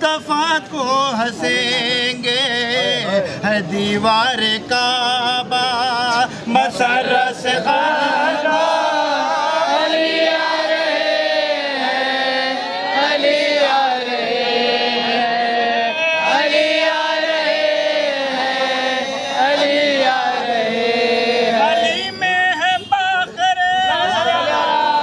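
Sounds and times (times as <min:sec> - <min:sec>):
men singing a devotional song: 0:00.0 - 0:25.0.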